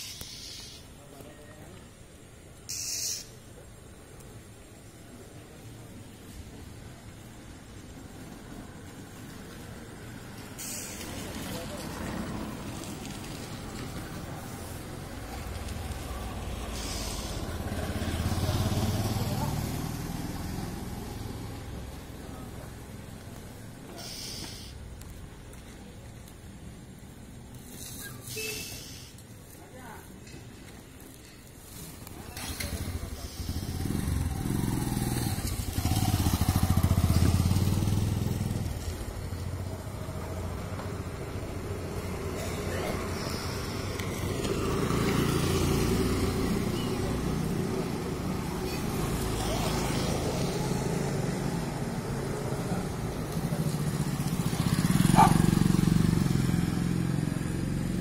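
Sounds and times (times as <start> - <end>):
motorcycle engine rumbling: 0.0 - 58.0
street traffic: 0.0 - 58.0.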